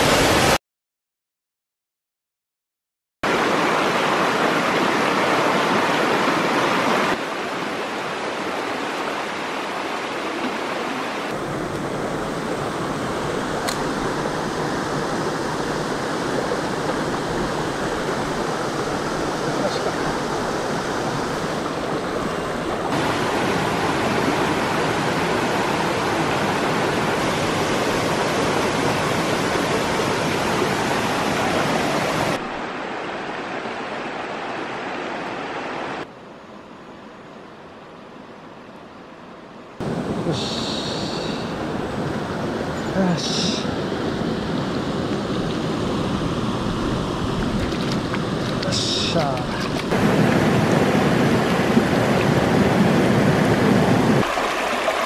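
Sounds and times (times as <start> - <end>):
stream rushing over rocks: 0.0 - 0.6, 3.2 - 36.1, 39.8 - 55.0.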